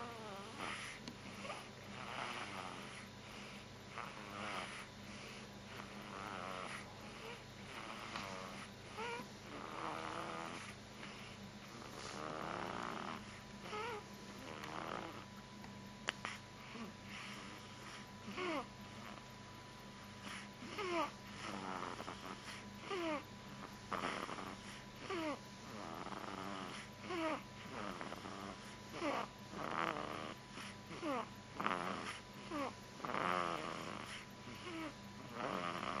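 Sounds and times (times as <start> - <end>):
girl snoring: 0.0 - 10.8, 11.6 - 15.3, 16.3 - 19.2, 20.2 - 36.0.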